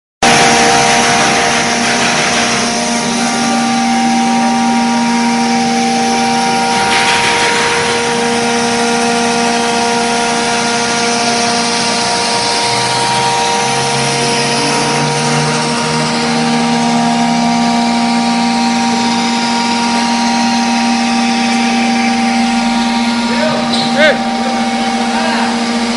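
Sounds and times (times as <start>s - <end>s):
cnc router spindle whine: 0.2s - 25.9s.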